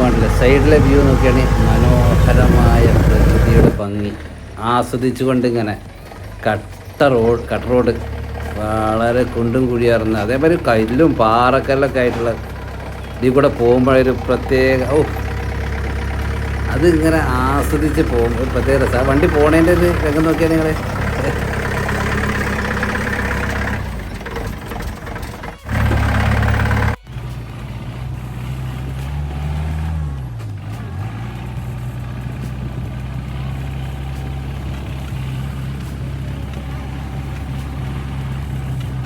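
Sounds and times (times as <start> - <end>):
off-road engine running: 0.0 - 39.0.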